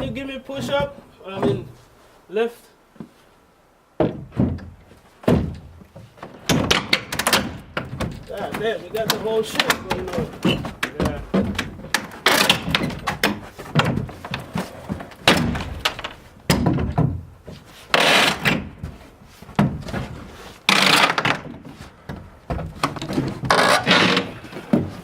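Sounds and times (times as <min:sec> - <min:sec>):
wood scraping and sliding: 0:00.0 - 0:02.3, 0:03.0 - 0:25.0
wooden boards thunking: 0:04.0 - 0:25.0.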